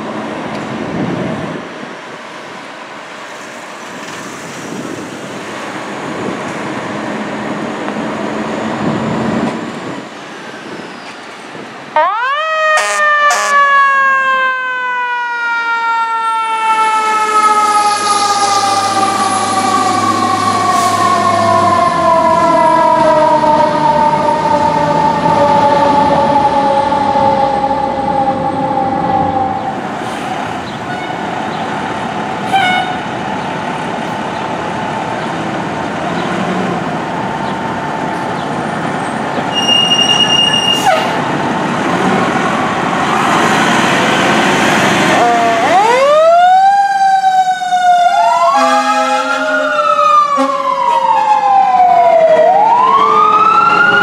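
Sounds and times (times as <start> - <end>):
traffic and engine noise: 0.0 - 54.0.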